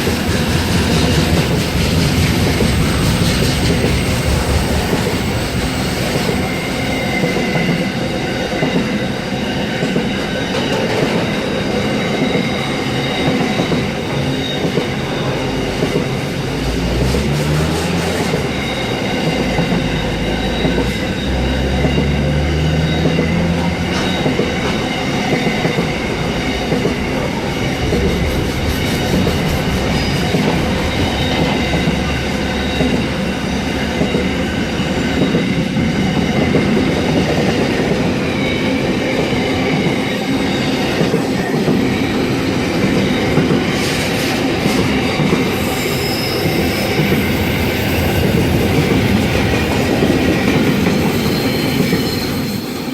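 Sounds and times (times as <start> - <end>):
electric train rumbling: 0.0 - 52.9.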